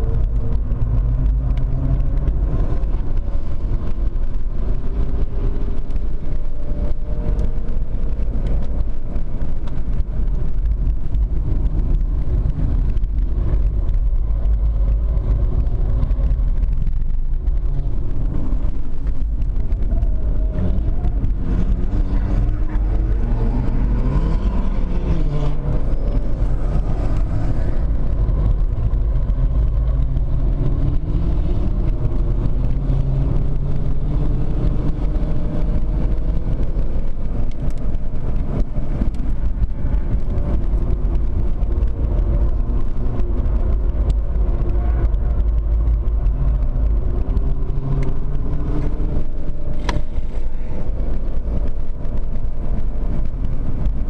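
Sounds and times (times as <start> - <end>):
diesel engine accelerating: 0.0 - 54.0
tyre and road noise: 0.0 - 54.0.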